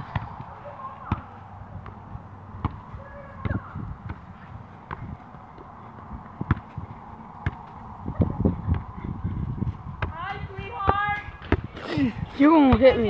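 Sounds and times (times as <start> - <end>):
ball thumps: 0.0 - 8.9, 9.9 - 13.0.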